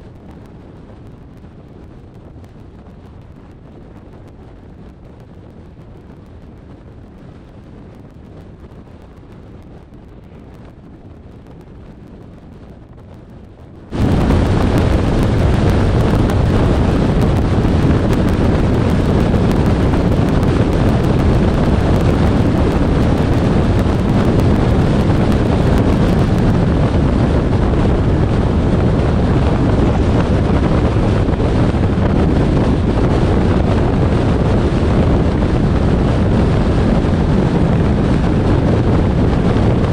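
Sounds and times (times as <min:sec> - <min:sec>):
wind and road noise from car: 0:00.0 - 0:39.9.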